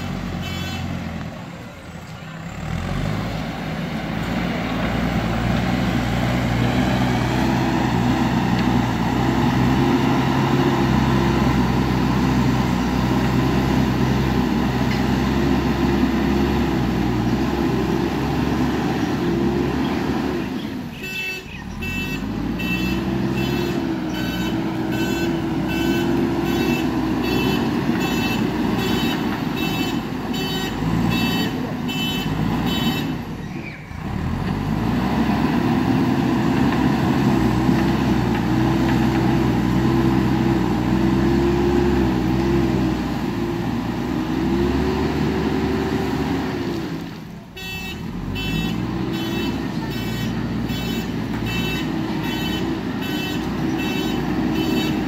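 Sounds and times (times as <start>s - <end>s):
diesel engine of backhoe: 0.0s - 55.0s.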